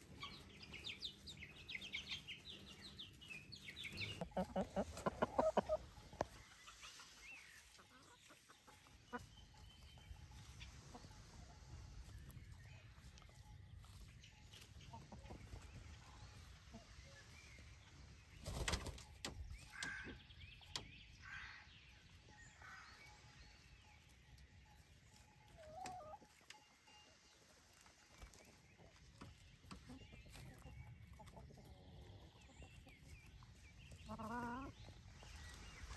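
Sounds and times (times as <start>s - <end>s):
hens clucking: 0.0s - 23.0s, 24.0s - 26.8s, 27.4s - 35.9s.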